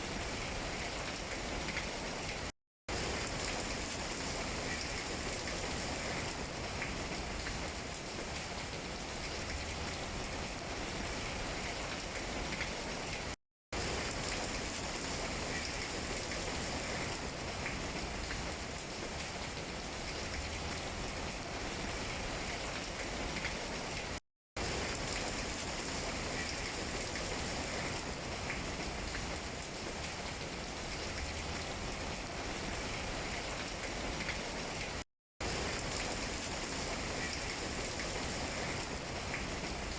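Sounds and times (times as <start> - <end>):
rain falling on tree leaves: 0.0 - 39.9.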